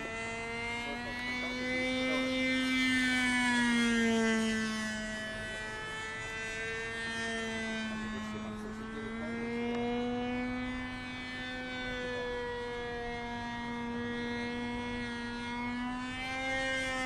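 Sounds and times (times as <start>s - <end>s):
model airplane motor droning: 0.0s - 17.0s.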